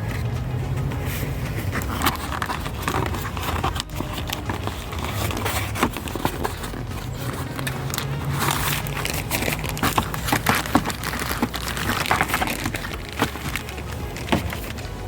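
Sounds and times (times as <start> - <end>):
filter crinkling rustles: 1.0 - 15.0.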